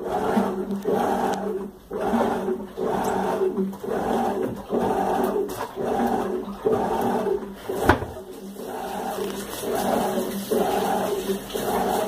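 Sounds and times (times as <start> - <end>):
washing machine agitating: 0.0 - 12.0
water sloshing in tub: 0.0 - 12.0.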